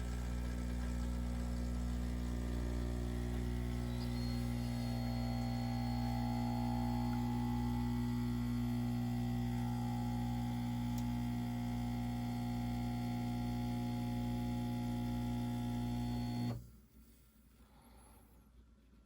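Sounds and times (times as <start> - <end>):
espresso machine pump humming: 0.0 - 16.6.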